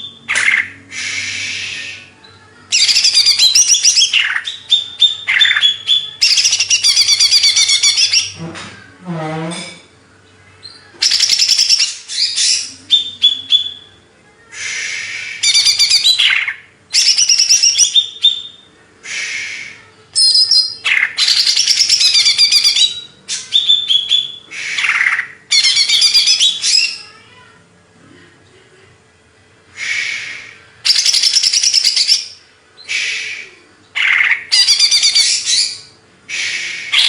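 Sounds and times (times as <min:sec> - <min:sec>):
bird warbling song: 0:00.0 - 0:08.5, 0:10.3 - 0:14.0, 0:14.6 - 0:19.6, 0:20.2 - 0:27.0, 0:29.8 - 0:37.0.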